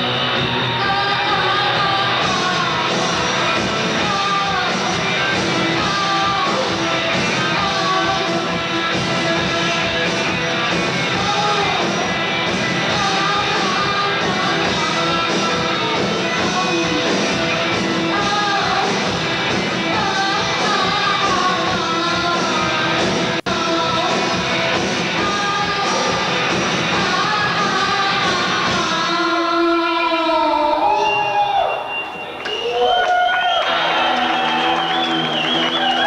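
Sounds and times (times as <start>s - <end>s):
rock band playing: 0.0s - 30.1s, 33.6s - 36.0s
woman singing: 0.6s - 10.0s, 11.0s - 31.0s.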